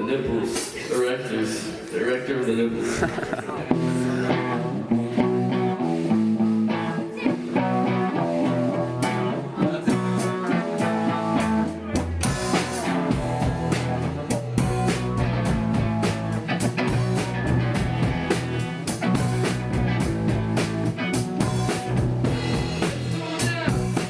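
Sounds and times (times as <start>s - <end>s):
electric guitar: 3.2s - 24.0s
rock band playing live: 3.2s - 24.0s.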